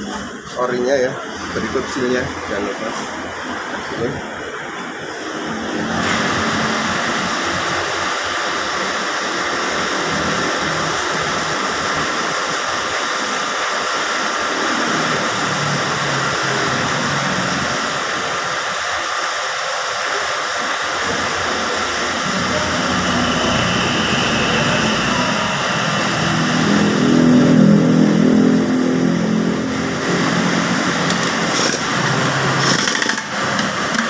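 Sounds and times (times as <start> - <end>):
loud rushing hiss: 0.0 - 34.0.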